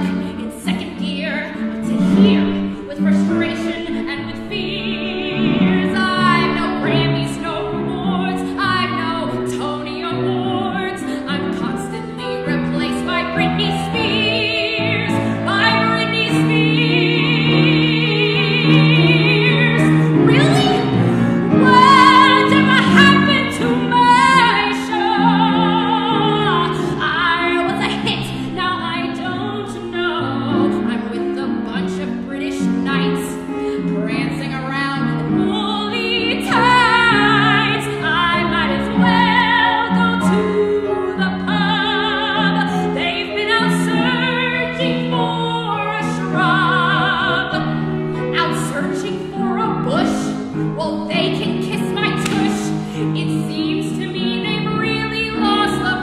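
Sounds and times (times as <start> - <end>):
grand piano: 0.0 - 56.0
soprano singing operatically: 0.0 - 56.0.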